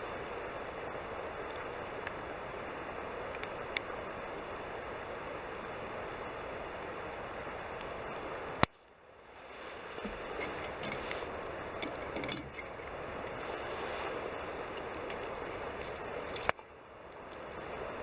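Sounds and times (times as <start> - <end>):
campfire hissing: 0.0 - 18.0
fire crackles and pops: 0.0 - 18.0.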